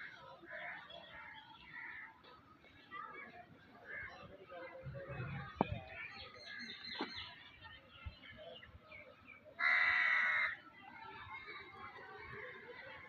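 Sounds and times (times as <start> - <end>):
faint busy background: 0.0 - 13.0.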